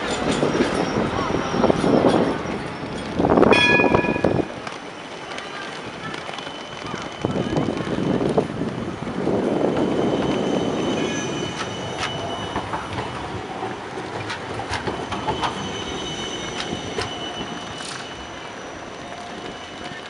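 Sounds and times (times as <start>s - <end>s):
wheel squeal: 0.0s - 8.2s, 9.5s - 20.0s
tram wheels rumbling on rails: 0.0s - 20.0s.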